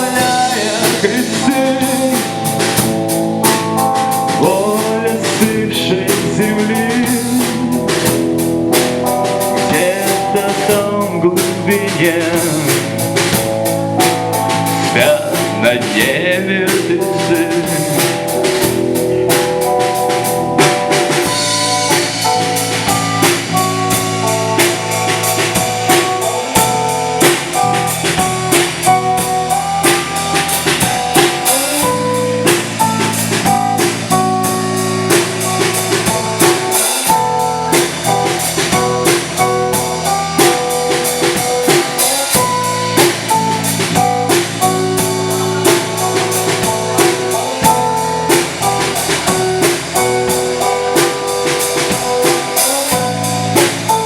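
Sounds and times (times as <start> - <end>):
drum kit beat: 0.0 - 54.0
live rock band playing: 0.0 - 54.0.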